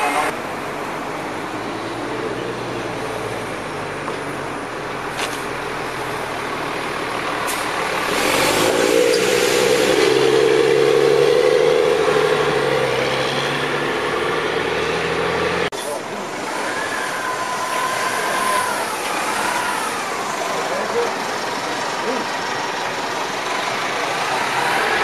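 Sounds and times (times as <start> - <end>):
bus engine driving past: 0.0 - 25.0.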